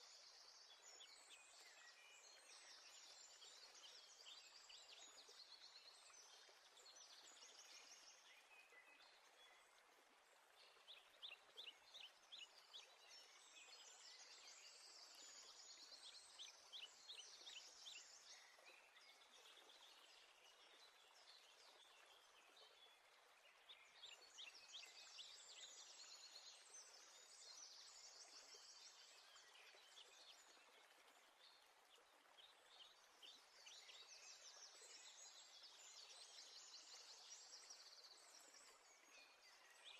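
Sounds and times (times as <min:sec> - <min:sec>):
low steady hiss: 0:00.0 - 0:39.9.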